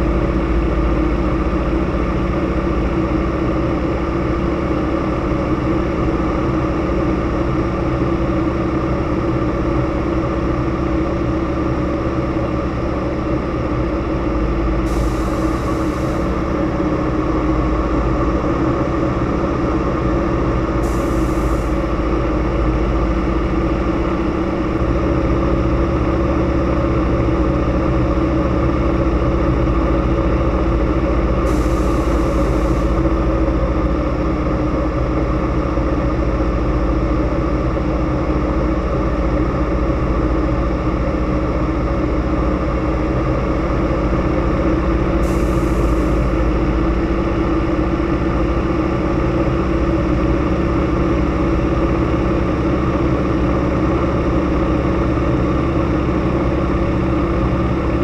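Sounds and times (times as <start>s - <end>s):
plane radial engine and propeller: 0.0s - 58.0s.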